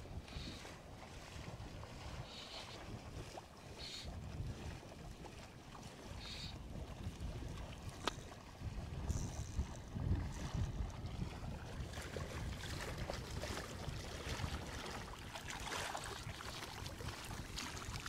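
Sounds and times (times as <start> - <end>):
water lapping and splashing: 0.0 - 18.0
wind rumbling on microphone: 0.0 - 18.0.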